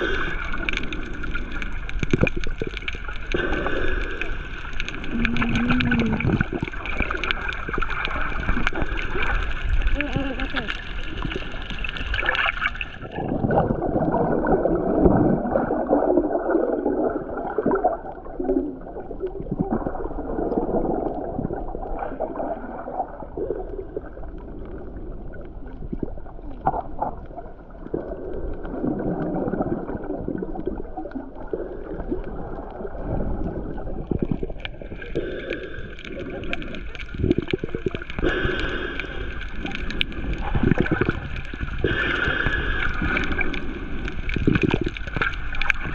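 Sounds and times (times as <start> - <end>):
underwater gurgling and churning: 0.0 - 45.9
water splashing: 0.0 - 45.9.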